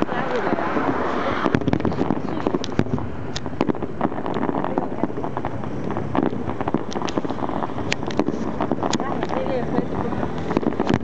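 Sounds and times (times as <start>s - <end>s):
fireworks popping and crackling: 0.0s - 11.0s
steady rushing noise: 0.0s - 11.0s
wind on microphone: 0.0s - 11.0s.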